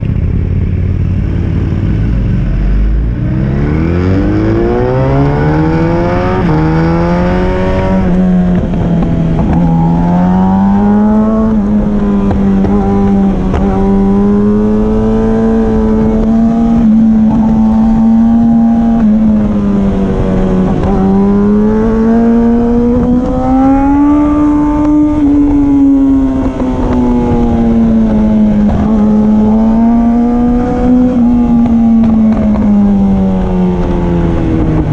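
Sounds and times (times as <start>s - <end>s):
motorcycle engine revving: 0.0s - 34.9s
wind rush: 0.0s - 34.9s.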